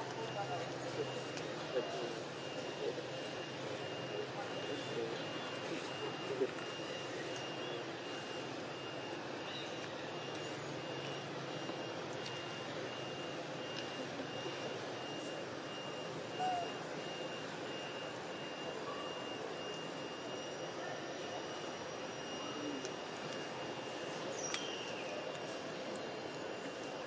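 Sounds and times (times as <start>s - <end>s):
faint pulsing tone: 0.0s - 27.0s
hiss-like outdoor noise: 0.0s - 27.0s
thin high whine: 0.0s - 27.0s.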